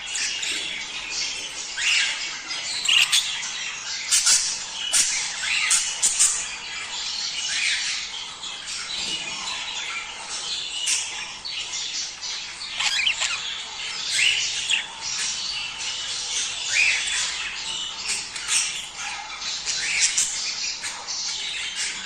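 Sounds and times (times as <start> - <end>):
sharp bird calls: 0.0 - 22.0
budgerigars chattering: 0.1 - 22.0.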